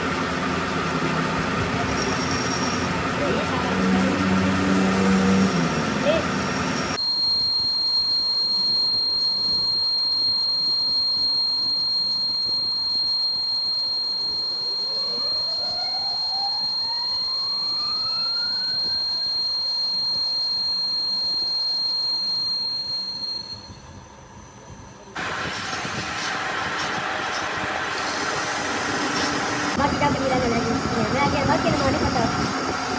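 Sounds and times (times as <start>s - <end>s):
machine high-pitched whine: 0.0s - 32.9s
tone rising in pitch: 0.6s - 32.9s.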